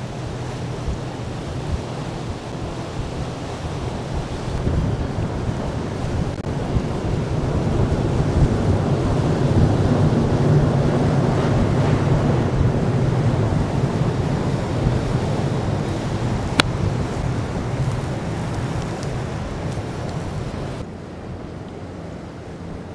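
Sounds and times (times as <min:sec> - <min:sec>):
boat engine drone: 0:00.0 - 0:22.9
water rushing past hull: 0:00.0 - 0:22.9
wind buffeting microphone: 0:00.0 - 0:22.9.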